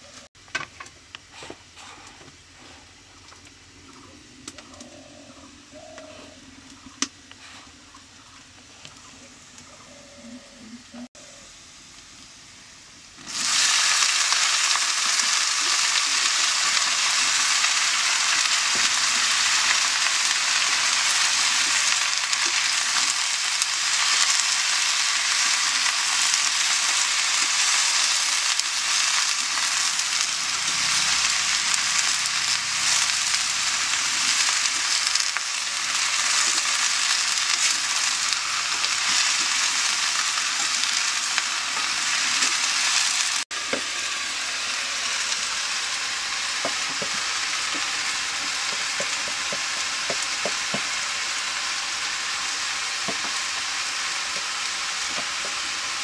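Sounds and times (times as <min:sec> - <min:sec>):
green beans sizzling in hot oil: 0:10.9 - 0:56.0.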